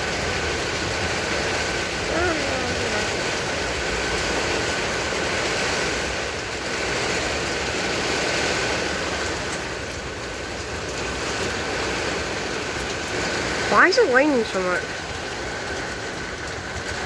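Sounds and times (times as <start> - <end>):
heavy rain pouring: 0.0 - 17.0
wind: 0.0 - 17.0.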